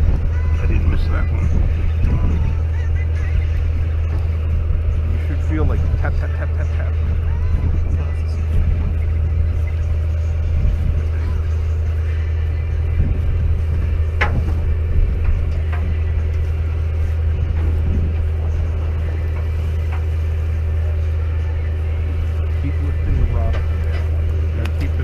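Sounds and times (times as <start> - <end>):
boat engine humming: 0.0 - 25.0
faint voices: 0.0 - 25.0.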